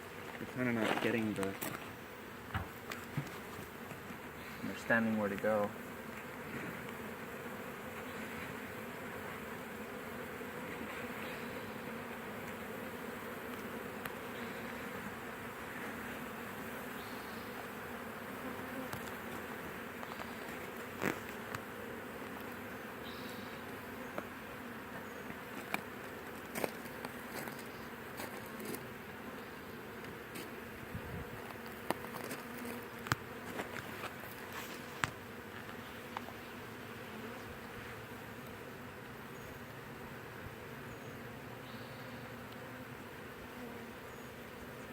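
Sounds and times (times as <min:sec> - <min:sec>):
bee swarm buzzing: 0:00.0 - 0:44.9.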